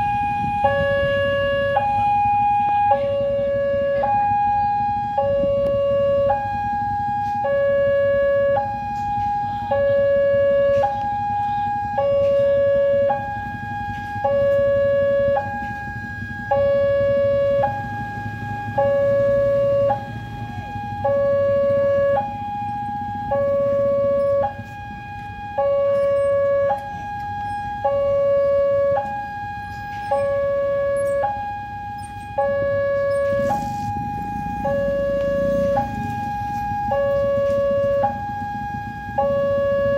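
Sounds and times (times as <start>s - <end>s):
level crossing alarm tones: 0.0s - 39.9s
low rumble of engines: 0.0s - 39.9s.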